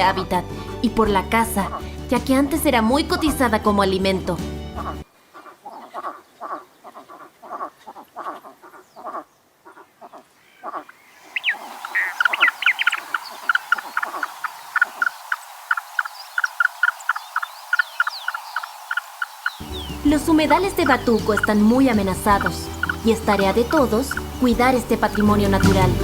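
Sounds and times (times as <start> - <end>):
frogs croaking: 4.8 - 26.0.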